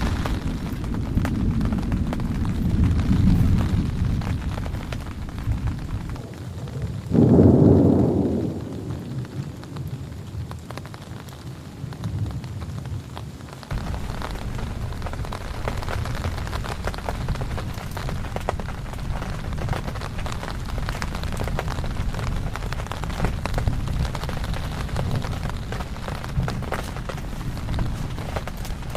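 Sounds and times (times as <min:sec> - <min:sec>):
heavy rain falling: 0:00.0 - 0:28.9
thunder rumble: 0:00.0 - 0:28.9.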